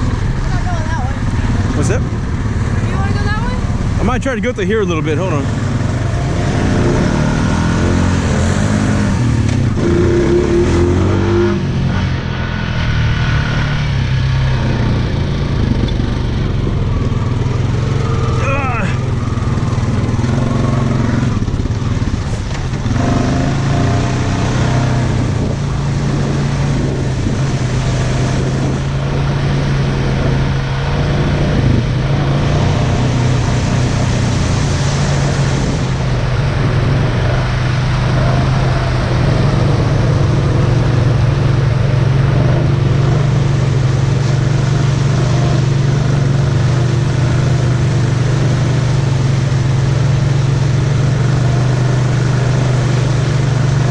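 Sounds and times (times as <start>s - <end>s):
atv engine hum: 0.0s - 53.9s.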